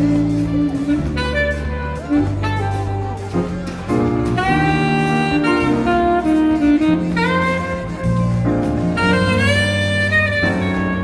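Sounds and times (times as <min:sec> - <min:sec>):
bass line: 0:00.0 - 0:11.0
saxophone melody: 0:00.0 - 0:11.0.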